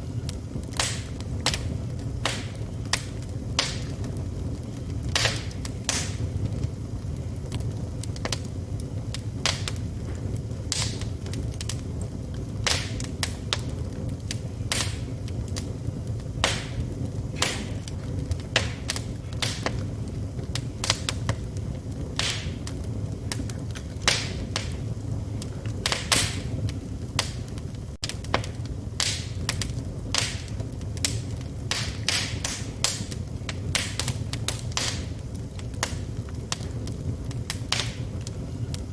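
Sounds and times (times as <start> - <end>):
low fire rumble: 0.0 - 38.9
wood fire crackling and popping: 0.0 - 38.9.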